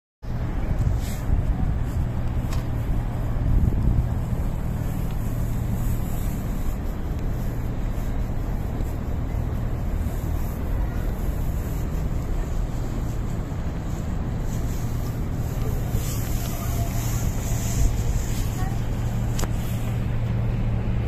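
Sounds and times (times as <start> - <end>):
low outdoor background rumble: 0.2 - 21.0.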